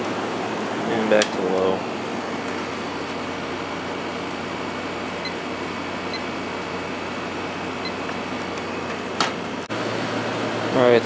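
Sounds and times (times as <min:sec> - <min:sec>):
air conditioner running: 0:00.0 - 0:11.0.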